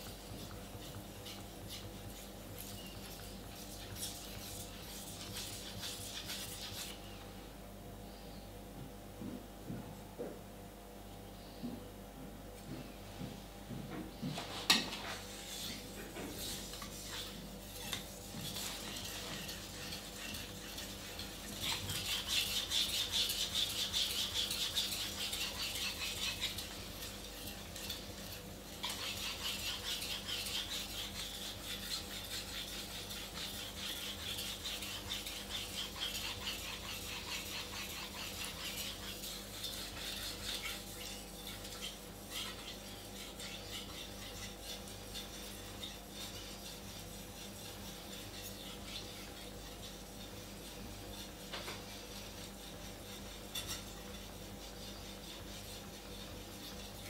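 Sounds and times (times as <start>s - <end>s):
knife scraping on whetstone: 0.1s - 7.0s, 14.4s - 57.0s.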